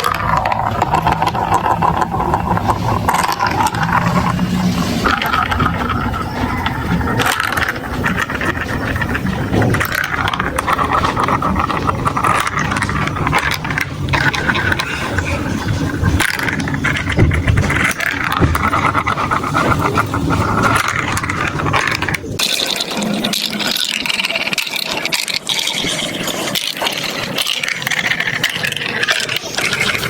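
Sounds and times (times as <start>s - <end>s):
marbles clattering down plastic run: 0.0s - 30.0s.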